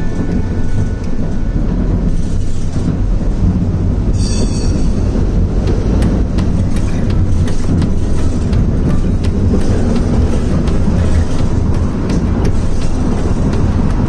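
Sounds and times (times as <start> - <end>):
tram rumbling on rails: 0.0 - 14.0
tram wheels squealing: 0.0 - 14.0.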